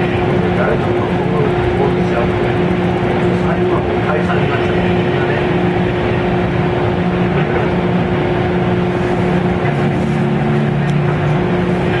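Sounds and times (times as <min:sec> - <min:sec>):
train motor hum: 0:00.0 - 0:12.0
train wheels rumbling on rail: 0:00.0 - 0:12.0.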